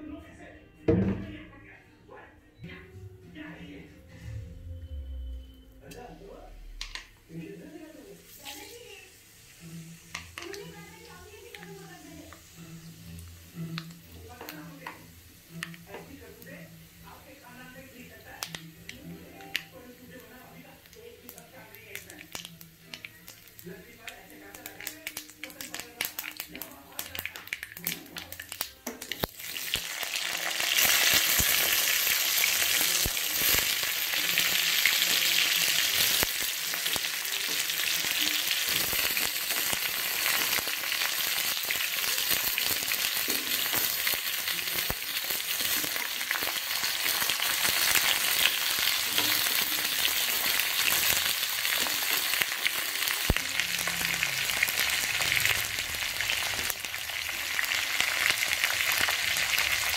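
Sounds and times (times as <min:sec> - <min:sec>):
hot oil sizzling: 0:05.8 - 0:59.9.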